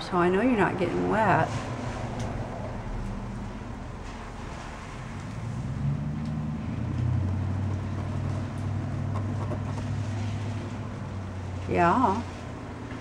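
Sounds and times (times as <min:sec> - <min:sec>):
vehicle engine running: 0:00.3 - 0:13.0.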